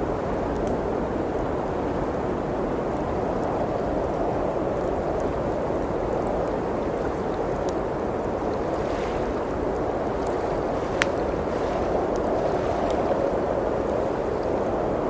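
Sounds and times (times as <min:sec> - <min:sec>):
blizzard wind blowing: 0:00.0 - 0:15.0
wood fire crackling: 0:00.0 - 0:15.0.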